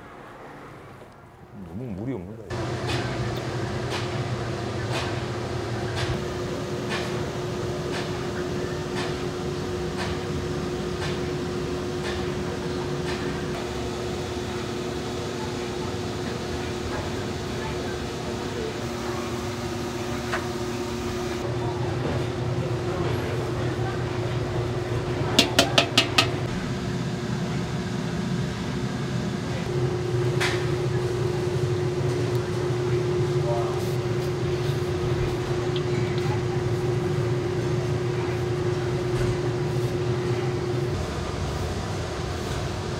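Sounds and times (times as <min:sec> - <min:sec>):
mechanical hum: 0:00.0 - 0:42.9.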